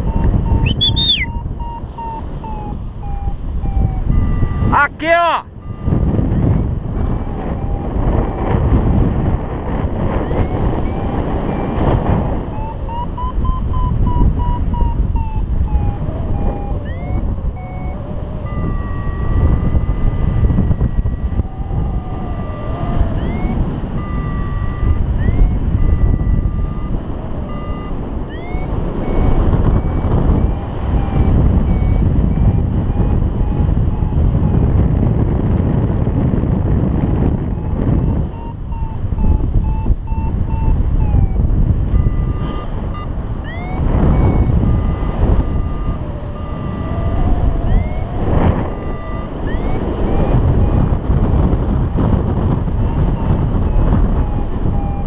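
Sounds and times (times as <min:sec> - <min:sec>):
variometer beeping: 0:00.0 - 0:55.0
wind rush on microphone: 0:00.0 - 0:55.0.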